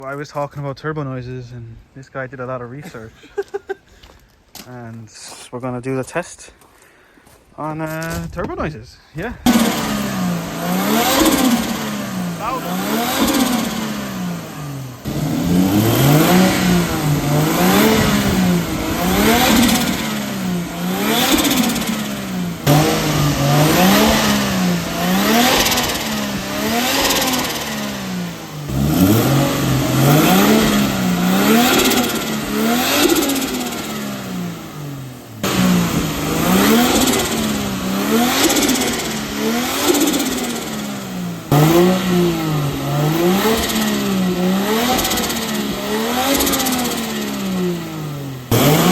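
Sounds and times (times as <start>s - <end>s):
car engine revving: 9.4s - 48.9s.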